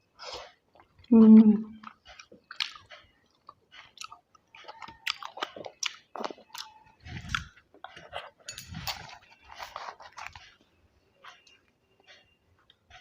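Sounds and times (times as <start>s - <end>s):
wet chewing and smacking: 1.8s - 13.0s.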